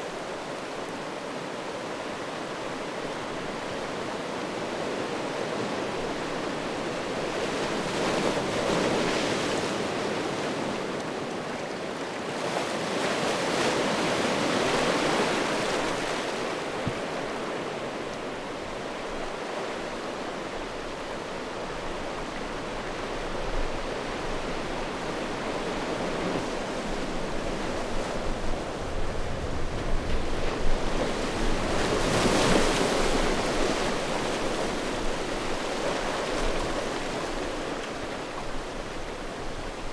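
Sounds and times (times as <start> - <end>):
waves washing over cobble beach: 0.0 - 39.9.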